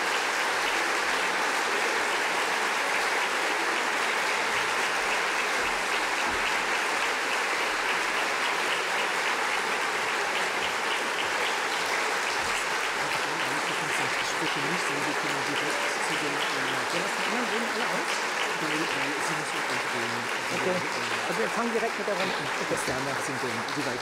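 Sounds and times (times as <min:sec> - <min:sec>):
large audience applauding: 0:00.0 - 0:24.0.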